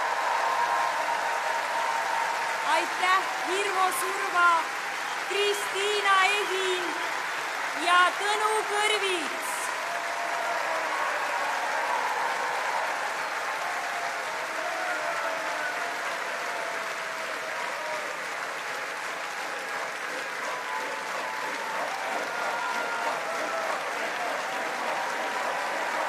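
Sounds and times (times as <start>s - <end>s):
crowd applauding: 0.0s - 26.0s.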